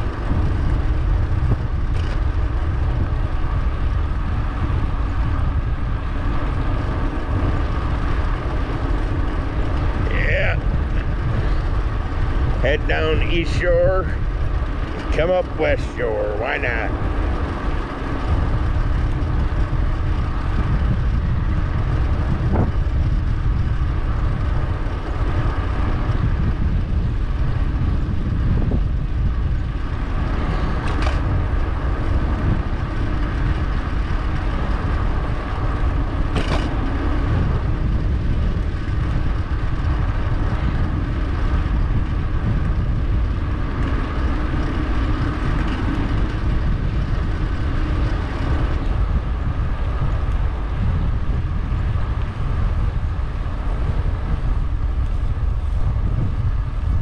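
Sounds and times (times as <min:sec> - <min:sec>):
bike tyre noise: 0:00.0 - 0:57.0
wind rush on microphone: 0:00.0 - 0:57.0.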